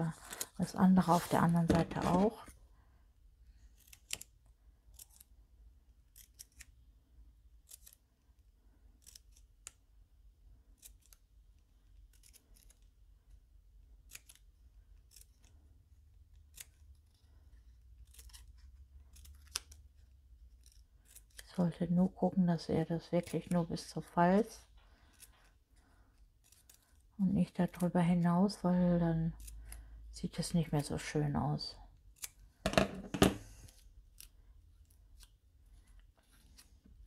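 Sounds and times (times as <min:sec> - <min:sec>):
scissors snipping cardstock: 0:00.1 - 0:02.4, 0:03.6 - 0:06.9, 0:07.5 - 0:08.2, 0:08.9 - 0:09.9, 0:10.7 - 0:22.0, 0:22.6 - 0:24.4, 0:25.0 - 0:28.2, 0:29.1 - 0:31.0, 0:32.0 - 0:37.0.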